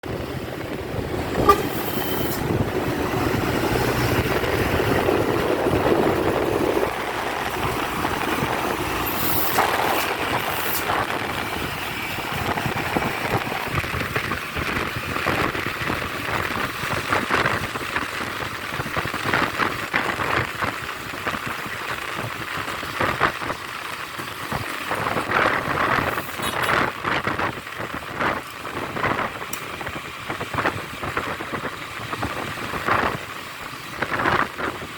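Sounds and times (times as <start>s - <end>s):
dump truck running: 0.0s - 34.9s.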